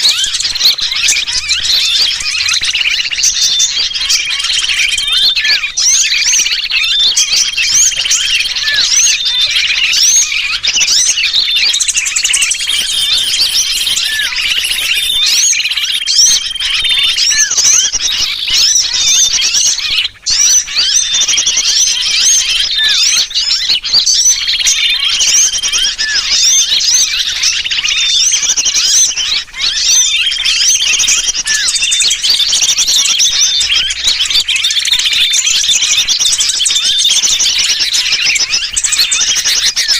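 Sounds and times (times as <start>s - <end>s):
bird distress calls: 0.0s - 39.9s
small birds chirping: 0.0s - 39.9s.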